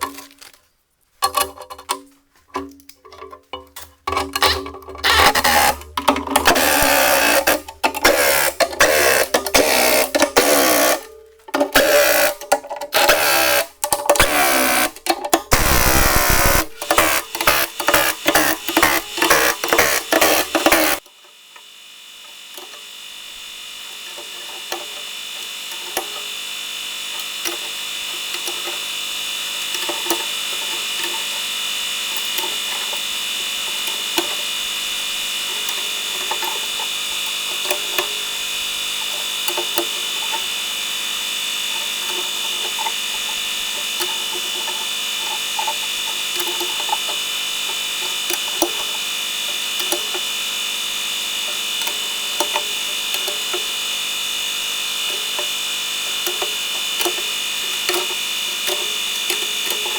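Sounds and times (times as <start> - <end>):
steady mechanical hum: 3.3 - 59.9.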